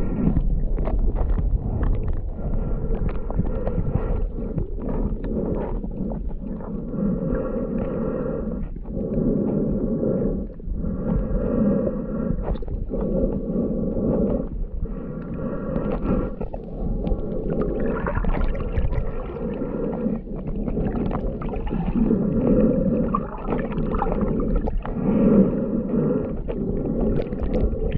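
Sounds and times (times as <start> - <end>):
muffled underwater water surging: 0.0 - 27.9.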